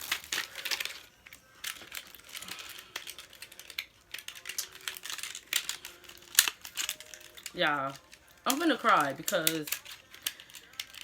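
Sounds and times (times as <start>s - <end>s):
plastic packaging clicking and crinkling: 0.0s - 11.0s.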